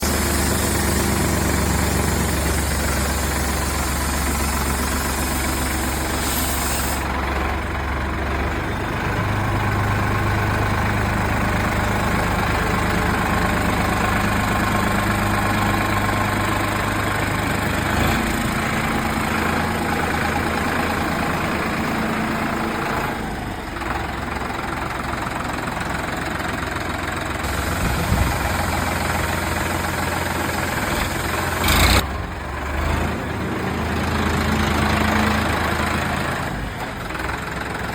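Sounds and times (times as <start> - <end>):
tractor diesel engine idling: 0.0 - 37.9.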